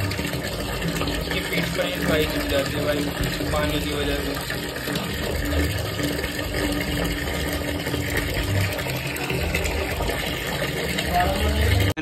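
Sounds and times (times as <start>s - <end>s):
water running into tub: 0.0s - 12.0s.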